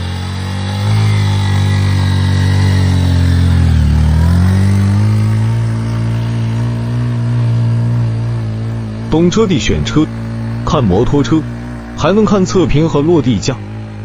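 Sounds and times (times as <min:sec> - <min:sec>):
motorcycle engine labouring uphill: 0:00.0 - 0:14.0.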